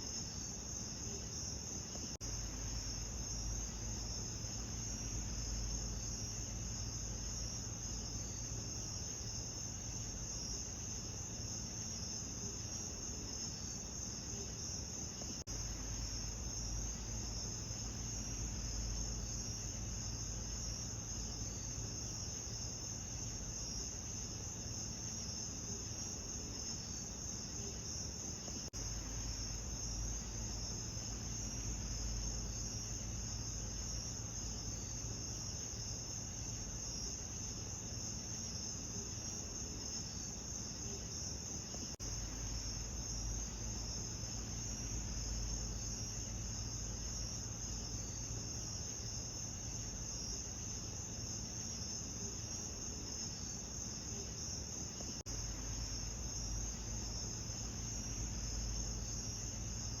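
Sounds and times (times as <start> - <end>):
crickets chirping: 0.0 - 60.0.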